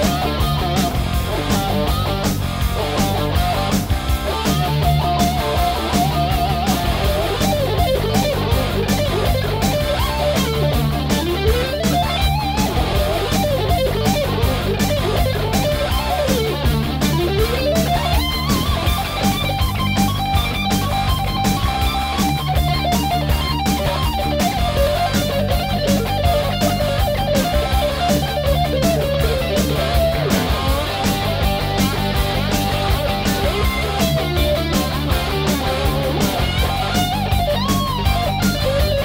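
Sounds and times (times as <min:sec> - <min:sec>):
electric guitar music: 0:00.0 - 0:39.0
sliding lead guitar line: 0:00.0 - 0:39.0
steady drum beat: 0:00.0 - 0:39.0.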